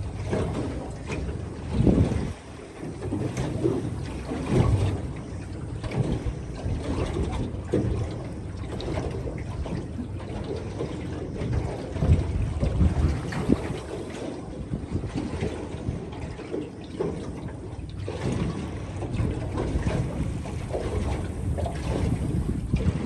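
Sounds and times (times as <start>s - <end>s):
hull slapping waves: 0.0s - 23.0s
water rushing along boat hull: 0.0s - 23.0s.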